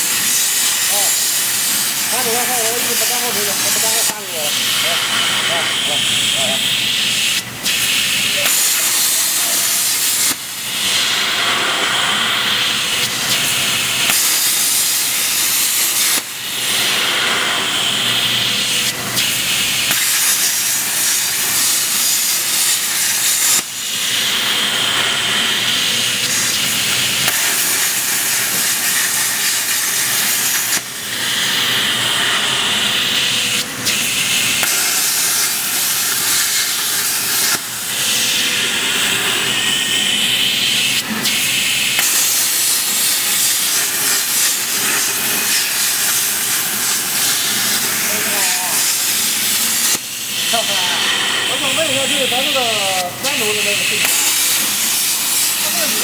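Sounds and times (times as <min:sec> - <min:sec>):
plasma cutting torch hissing: 0:00.0 - 0:56.0.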